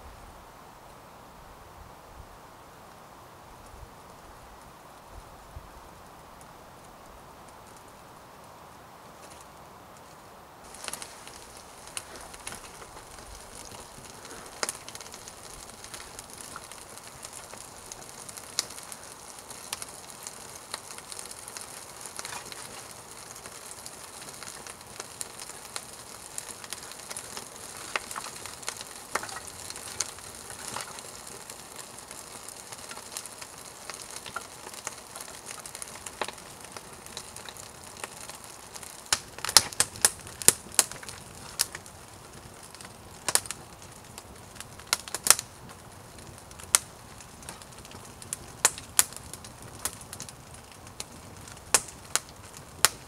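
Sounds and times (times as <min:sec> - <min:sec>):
campfire hissing and crackling: 0:00.0 - 0:53.0.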